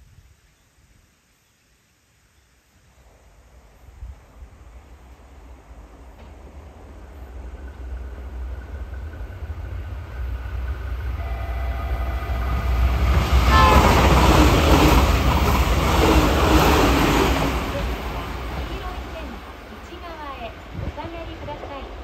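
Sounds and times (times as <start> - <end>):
electric train passing: 3.0 - 22.0.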